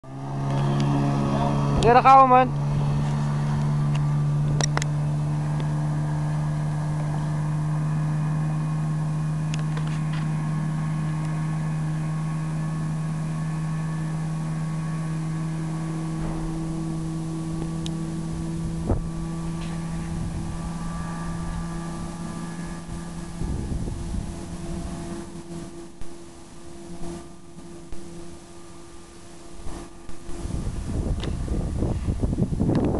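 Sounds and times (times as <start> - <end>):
outboard motor droning: 0.0 - 32.9.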